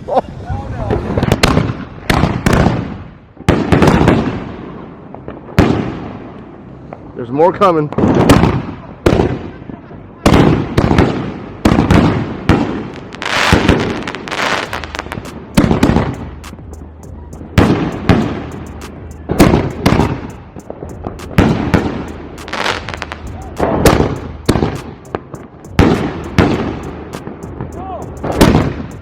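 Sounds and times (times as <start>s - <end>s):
firework mortar bangs: 0.9s - 6.4s, 7.9s - 16.8s, 17.4s - 29.0s.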